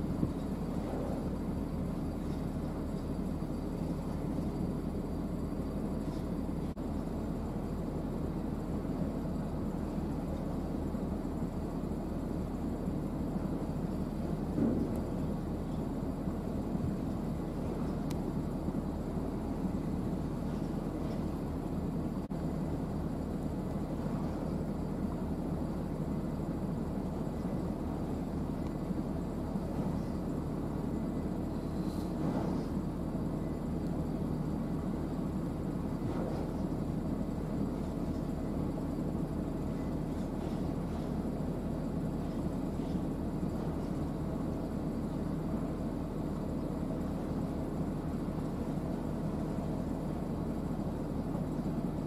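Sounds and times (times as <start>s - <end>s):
ship diesel engine rumble: 0.0s - 52.0s.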